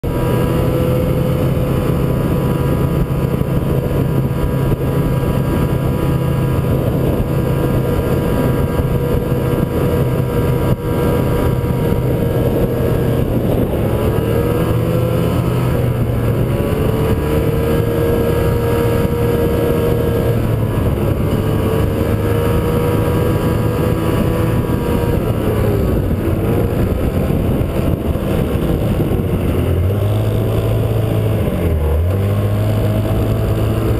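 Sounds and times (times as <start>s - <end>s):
snowmobile engine running: 0.0s - 33.9s.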